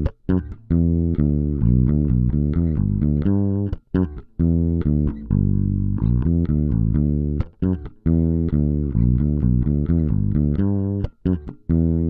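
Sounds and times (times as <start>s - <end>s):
electric bass plucked notes: 0.0s - 12.0s.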